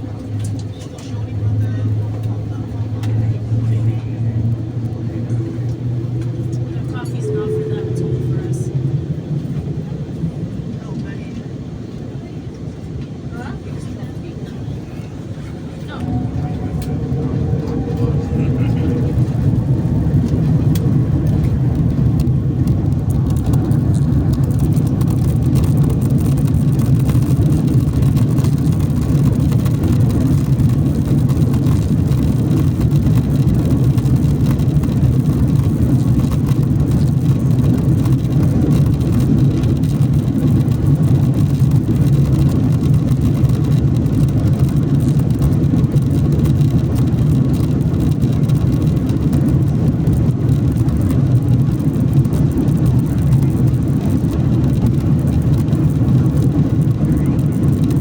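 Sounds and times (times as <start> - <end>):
jet engine cabin roar: 0.0 - 58.0.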